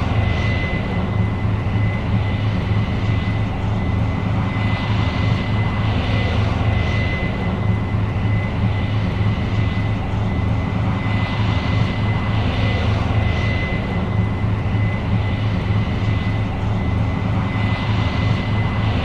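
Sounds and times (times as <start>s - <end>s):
combine engine hum: 0.0s - 19.0s
steady high whine: 0.0s - 19.0s.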